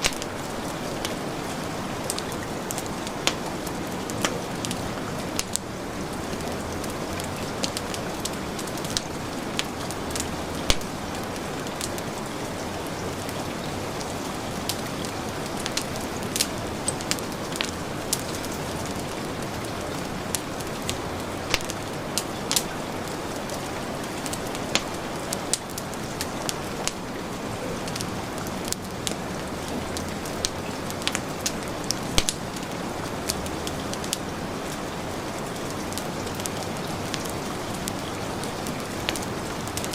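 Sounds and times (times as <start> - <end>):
heavy rain falling: 0.0 - 39.9
wood fire crackling and popping: 0.0 - 39.9.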